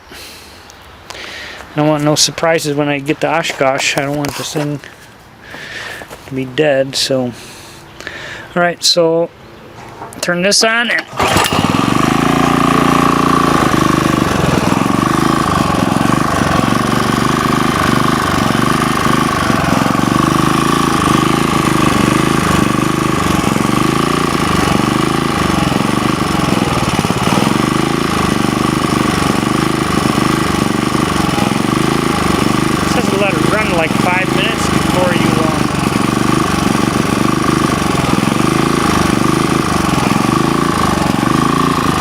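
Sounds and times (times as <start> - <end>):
generator engine running: 1.1 - 8.4, 9.8 - 42.0.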